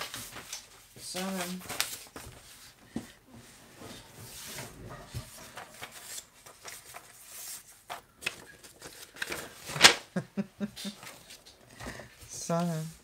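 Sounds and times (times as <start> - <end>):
paper sheets rustling: 0.0 - 10.2, 10.8 - 13.0.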